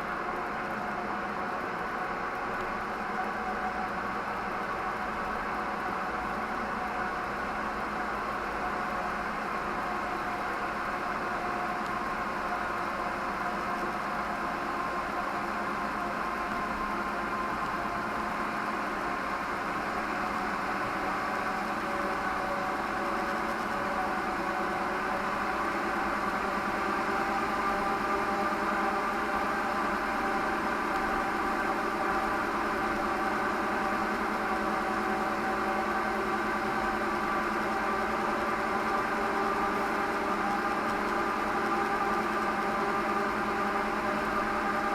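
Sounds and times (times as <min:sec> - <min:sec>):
car engine hum inside cabin: 0:00.0 - 0:44.9.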